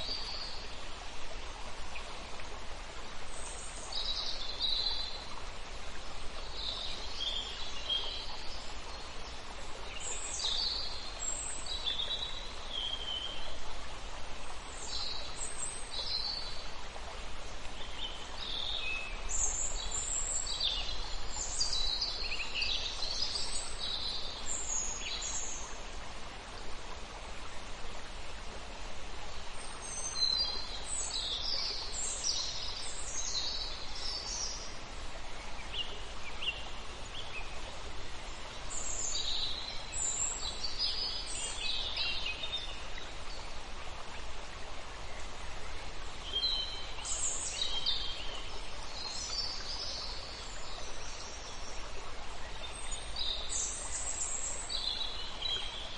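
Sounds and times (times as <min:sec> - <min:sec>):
outdoor background hiss: 0:00.0 - 0:55.9.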